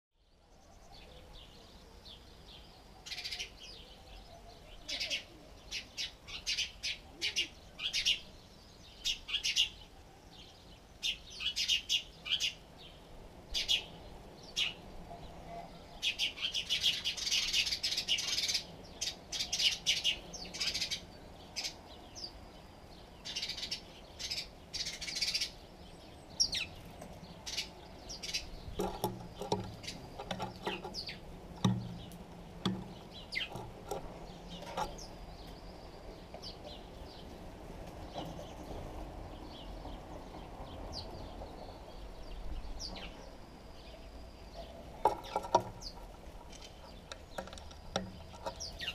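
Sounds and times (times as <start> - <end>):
sparrows chirping: 0.2 - 48.9.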